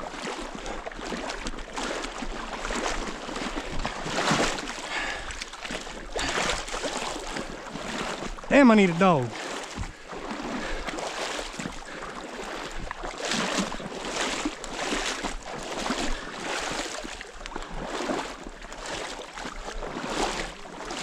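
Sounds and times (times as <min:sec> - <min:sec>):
water sloshing from wading: 0:00.1 - 0:21.0.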